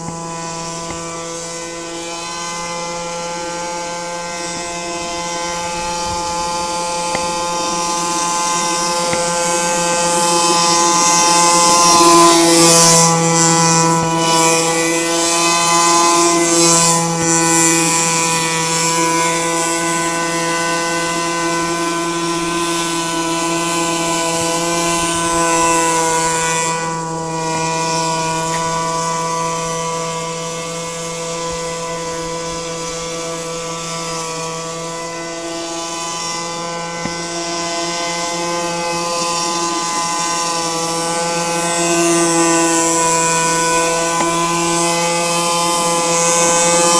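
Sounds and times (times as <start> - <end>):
model airboat engine buzzing: 0.0 - 46.9.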